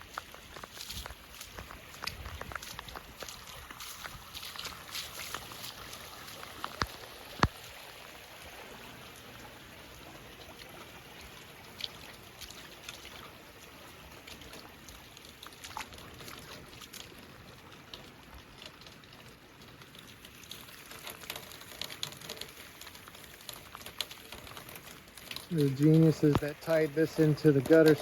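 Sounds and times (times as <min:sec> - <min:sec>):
runoff water trickling: 0:00.0 - 0:28.0.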